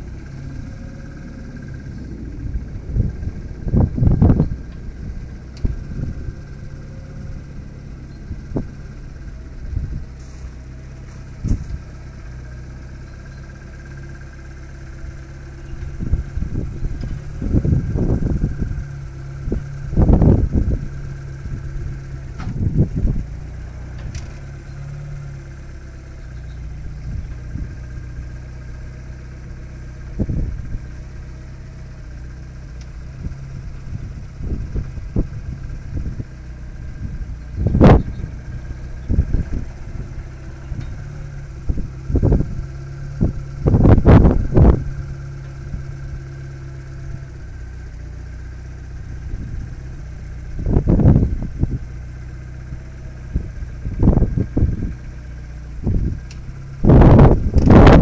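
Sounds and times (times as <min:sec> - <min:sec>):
locomotive engine running: 0:00.0 - 0:58.0.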